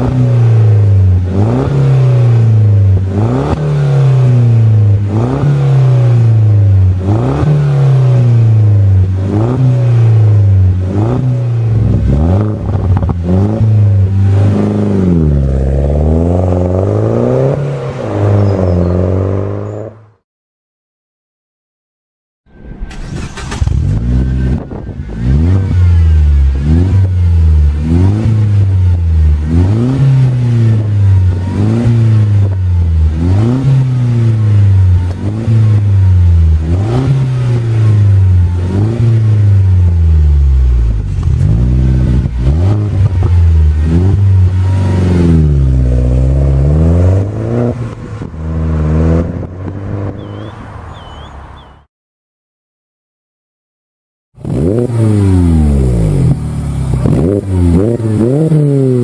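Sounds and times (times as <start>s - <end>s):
car engine revving: 0.0s - 20.2s, 22.5s - 51.6s, 54.4s - 59.0s.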